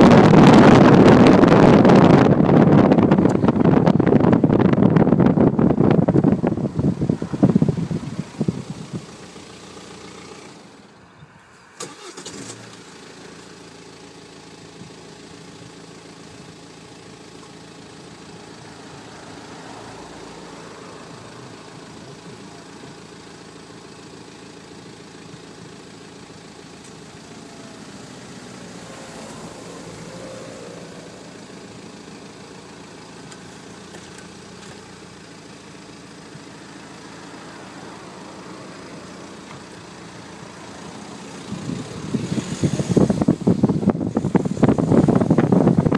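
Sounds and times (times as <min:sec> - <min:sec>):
car engine running: 0:00.0 - 0:45.9
road noise: 0:00.0 - 0:45.9.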